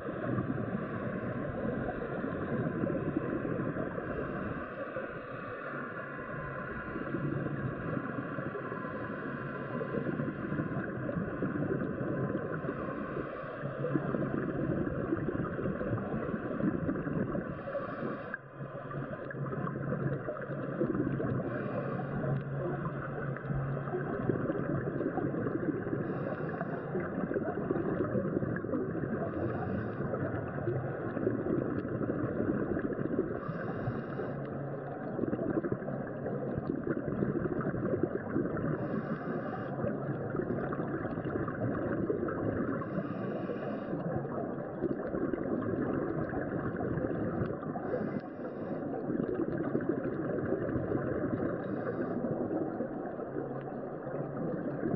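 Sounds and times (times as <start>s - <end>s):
underwater bubbling rush: 0.0s - 54.9s.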